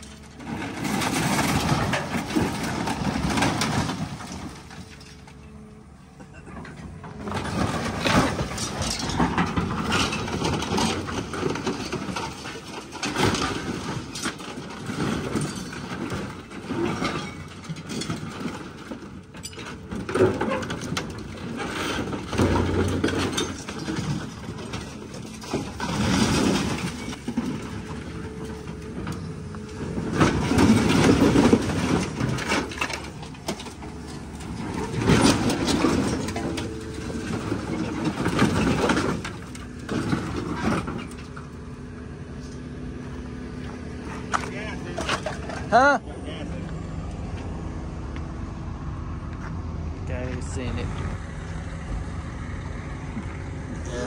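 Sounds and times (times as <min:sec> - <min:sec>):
sheet metal crunching and scraping: 0:00.0 - 0:05.5, 0:06.4 - 0:41.6, 0:43.6 - 0:46.6
excavator engine under load: 0:00.0 - 0:54.0.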